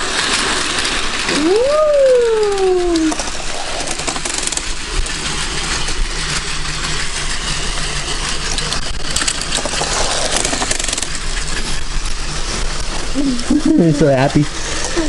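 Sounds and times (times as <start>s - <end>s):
toy train motors whirring: 0.0s - 15.0s
wheels clicking on plastic track: 0.0s - 15.0s.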